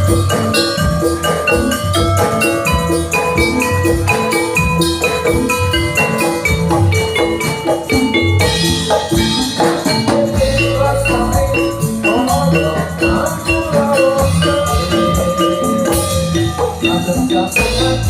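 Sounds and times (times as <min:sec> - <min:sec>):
gamelan music over drums: 0:00.0 - 0:18.0.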